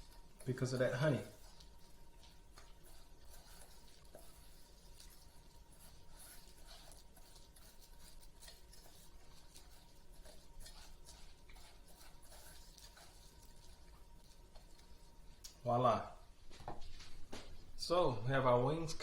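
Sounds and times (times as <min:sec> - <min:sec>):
chicken wings stirred in sauce: 0:00.0 - 0:15.7.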